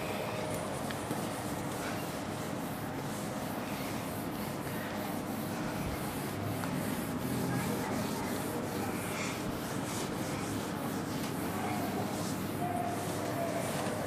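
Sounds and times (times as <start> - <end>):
cloth rubbing whiteboard: 0.6 - 14.0.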